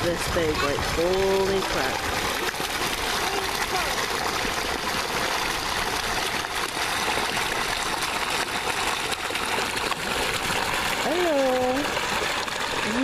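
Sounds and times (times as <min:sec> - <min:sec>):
water churning and splashing: 0:00.0 - 0:13.0.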